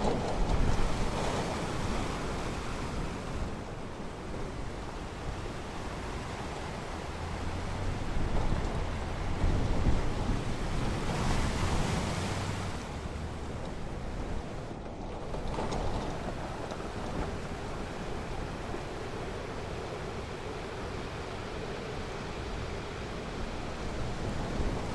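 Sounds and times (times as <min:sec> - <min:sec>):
ocean surf breaking on beach: 0:00.0 - 0:24.9.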